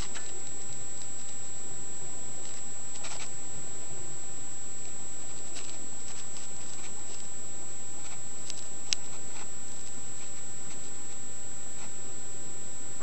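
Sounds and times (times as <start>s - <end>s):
background hiss: 0.0s - 13.0s
high-pitched whine: 0.0s - 13.0s.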